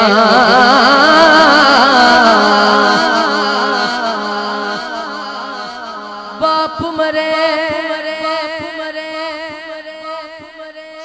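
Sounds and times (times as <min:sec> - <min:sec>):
man singing long ornamented note: 0:00.0 - 0:11.0.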